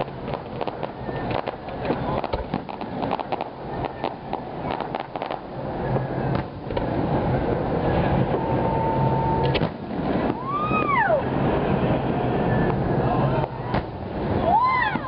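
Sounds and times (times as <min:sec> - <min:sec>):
fireworks bangs and crackles: 0:00.0 - 0:15.0
fireworks rumble: 0:00.0 - 0:15.0
low steady hum: 0:00.0 - 0:15.0.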